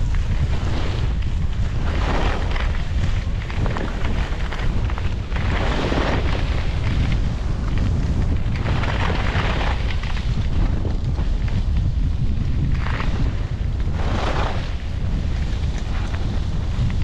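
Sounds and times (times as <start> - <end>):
skis scraping across snow: 0.0 - 17.0
wind buffeting microphone: 0.0 - 17.0.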